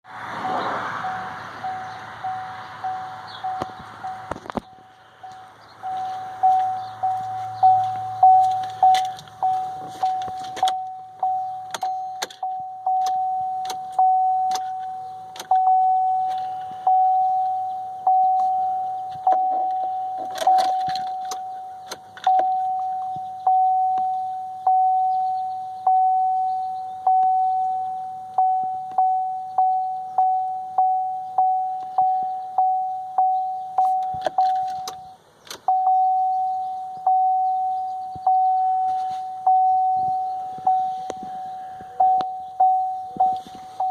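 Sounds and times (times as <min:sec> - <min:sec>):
car warning chime dinging: 0:01.0 - 0:43.9.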